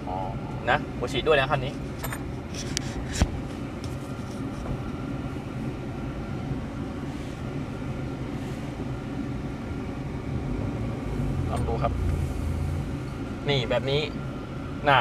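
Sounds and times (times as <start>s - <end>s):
diesel engine and road rumble: 0.0s - 15.0s.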